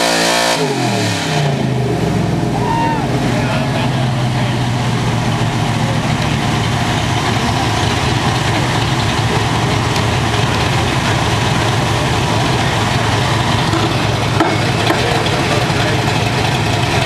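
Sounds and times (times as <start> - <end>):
truck engine running steadily: 0.0 - 17.0.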